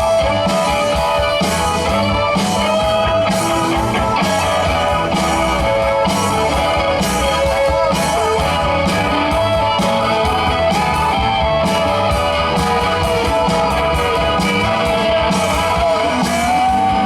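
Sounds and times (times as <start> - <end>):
electric guitar lines: 0.0 - 17.0
live rock band playing: 0.0 - 17.0.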